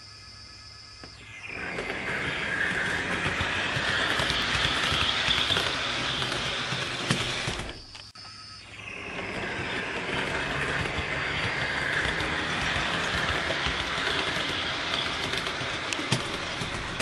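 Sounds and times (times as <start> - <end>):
model train rolling on track: 1.3 - 8.0, 8.7 - 17.0.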